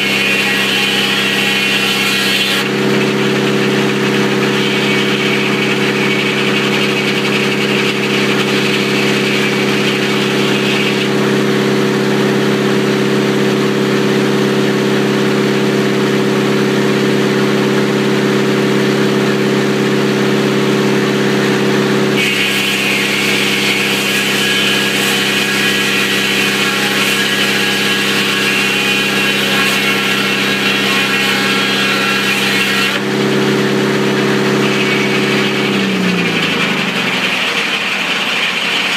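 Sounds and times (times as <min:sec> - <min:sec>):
saw cutting through wood: 0:00.0 - 0:38.9
sawmill engine running: 0:00.0 - 0:38.9.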